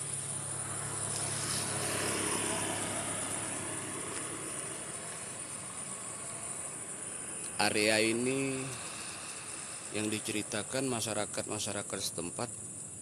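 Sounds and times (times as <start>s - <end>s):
distant vehicle engine: 0.0s - 13.0s
night insects chirring: 0.0s - 13.0s.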